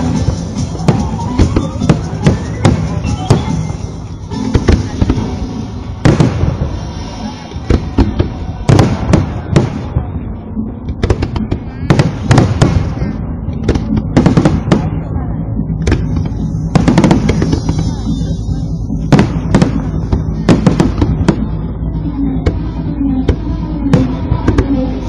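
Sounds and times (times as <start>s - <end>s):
fireworks bursting bangs: 0.0s - 10.3s, 10.9s - 15.1s, 15.8s - 21.8s
crowd noise: 0.0s - 25.0s
music: 0.0s - 25.0s.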